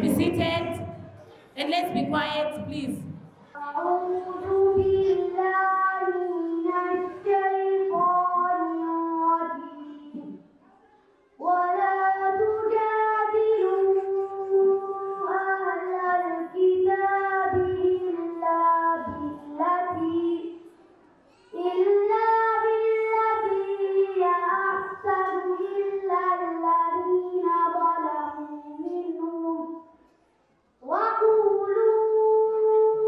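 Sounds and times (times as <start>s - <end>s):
girl chanting through a microphone: 0.0s - 10.4s, 11.4s - 20.7s, 21.5s - 30.0s, 30.8s - 33.0s.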